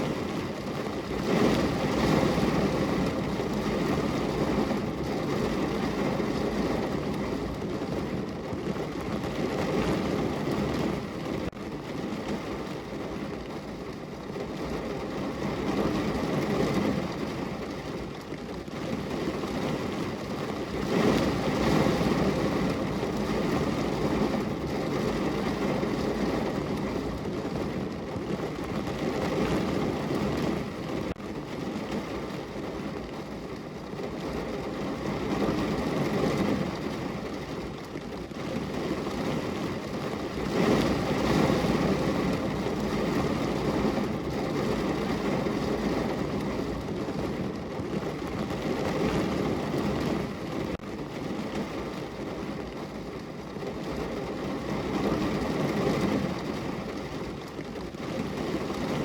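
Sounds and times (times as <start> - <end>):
heavy rain drumming on car roof: 0.0 - 59.0.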